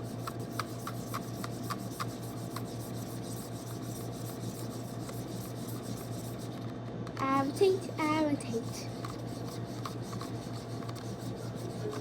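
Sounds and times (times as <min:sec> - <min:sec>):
spoon stirring slime in a bowl: 0:00.0 - 0:06.6, 0:08.7 - 0:12.0.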